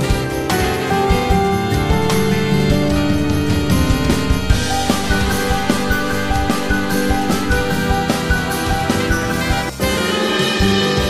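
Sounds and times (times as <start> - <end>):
steady drum beat: 0.0 - 11.0
sustained instrumental notes: 1.9 - 11.0.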